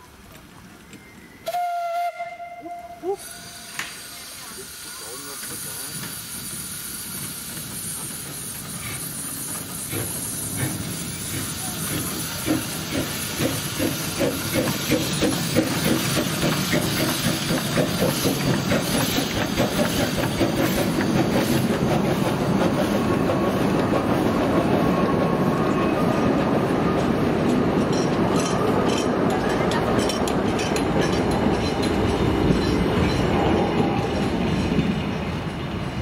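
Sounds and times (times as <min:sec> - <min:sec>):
train rolling: 0:00.0 - 0:36.0
steam locomotive chuffing: 0:01.5 - 0:36.0
rail-joint clicks: 0:03.5 - 0:04.4, 0:05.1 - 0:25.3, 0:26.9 - 0:35.9.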